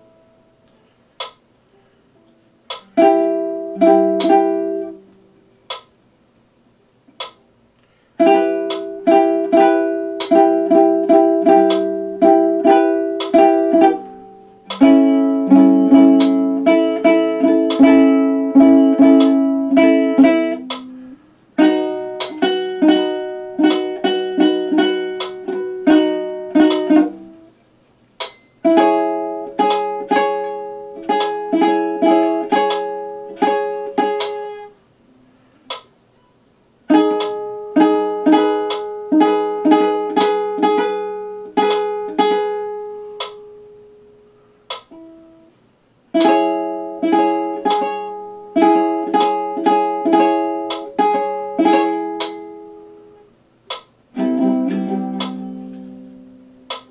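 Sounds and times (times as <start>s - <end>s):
ukulele strumming chords: 0.0s - 6.0s, 7.1s - 27.6s, 28.2s - 56.9s.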